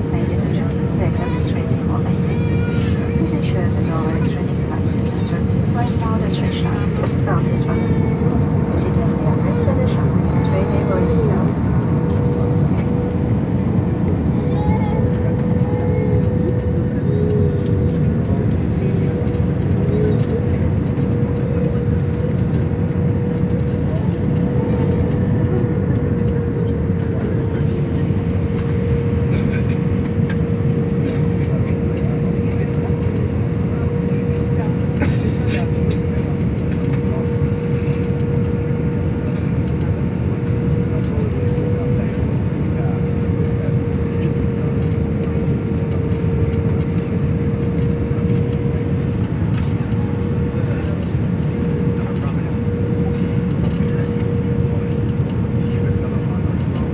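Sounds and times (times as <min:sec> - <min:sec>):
jet engine and airflow rush: 0:00.0 - 0:56.9
steady cabin hum: 0:00.0 - 0:56.9.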